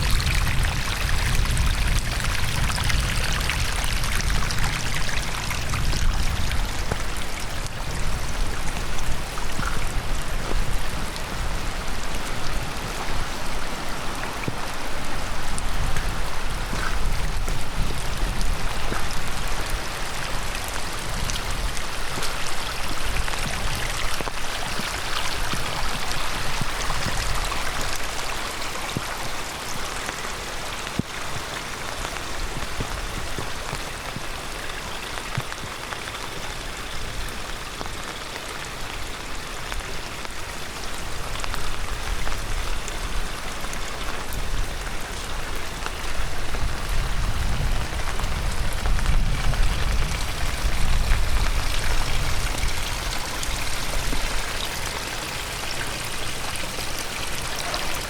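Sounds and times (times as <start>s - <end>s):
heavy rain: 0.0s - 58.0s
stream rushing: 0.0s - 58.0s.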